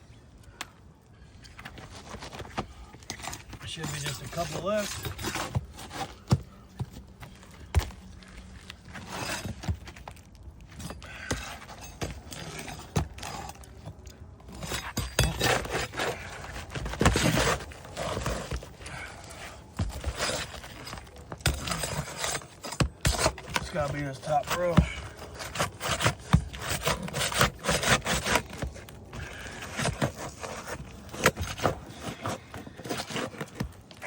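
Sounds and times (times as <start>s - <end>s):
tool scraping under shingles: 1.5s - 34.0s.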